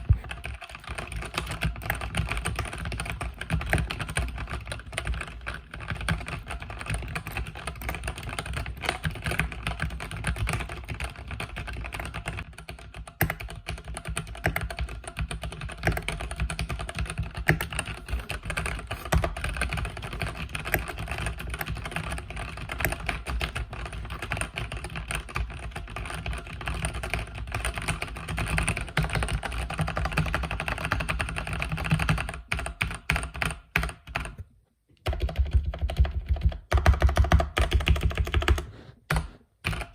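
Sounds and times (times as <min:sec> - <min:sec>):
mechanical keyboard typing: 0:00.0 - 0:34.4, 0:35.0 - 0:39.9.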